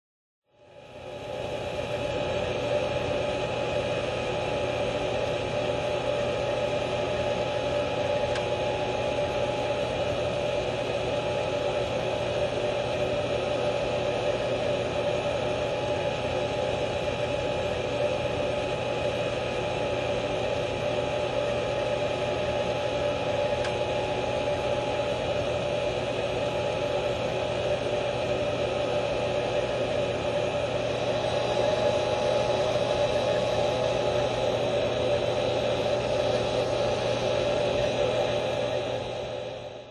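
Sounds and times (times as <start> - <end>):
noisy drone with hum: 0.5 - 39.9.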